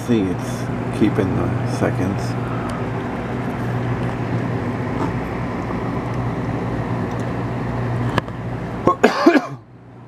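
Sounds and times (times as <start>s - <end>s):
rushing background noise: 0.0s - 9.6s
steady hum with low drone: 0.0s - 10.0s.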